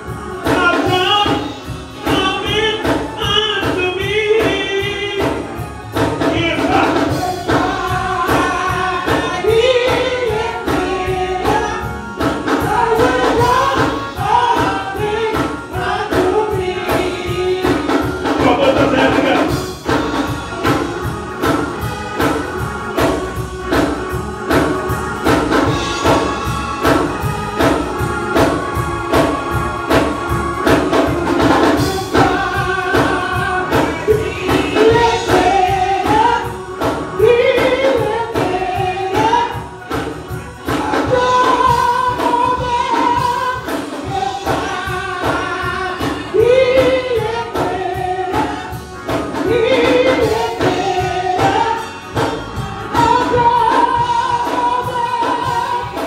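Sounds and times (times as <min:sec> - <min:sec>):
choir singing gospel: 0:00.0 - 0:56.0
steady rhythmic beat: 0:00.0 - 0:56.0.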